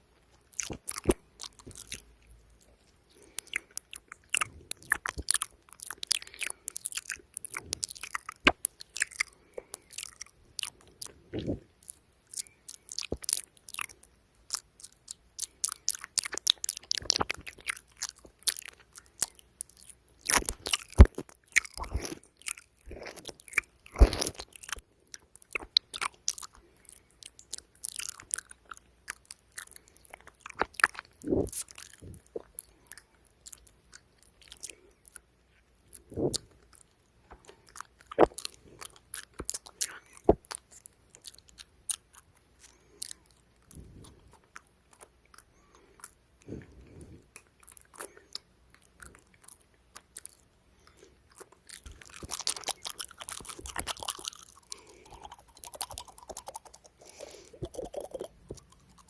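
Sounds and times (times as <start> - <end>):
wet lip and tongue clicks: 0.3 - 59.0.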